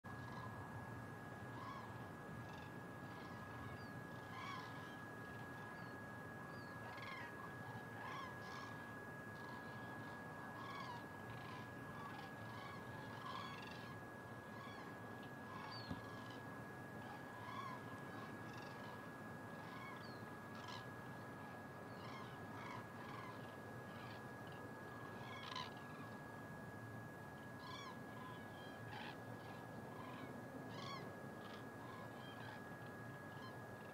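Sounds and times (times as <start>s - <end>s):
cranes trumpeting calls: 0.1s - 33.9s.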